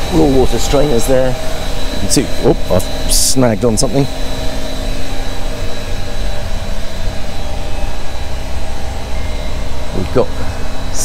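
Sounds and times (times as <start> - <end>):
engine room machinery drone: 0.0 - 11.0.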